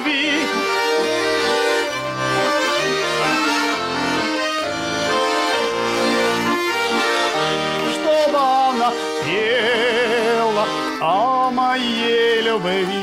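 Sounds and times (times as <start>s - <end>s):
accordion folk melody: 0.0s - 13.0s.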